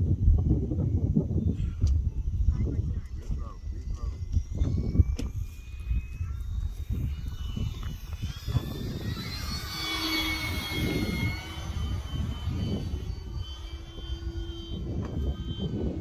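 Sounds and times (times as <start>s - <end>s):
model plane motor whine: 0.0s - 16.0s
wind buffeting microphone: 0.0s - 16.0s.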